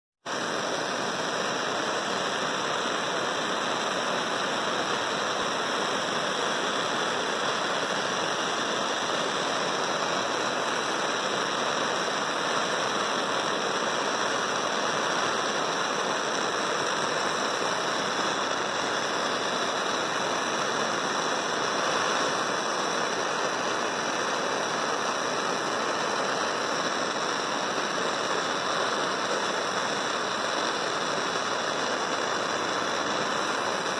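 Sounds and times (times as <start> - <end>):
gas torch flame hissing: 0.3 - 33.9.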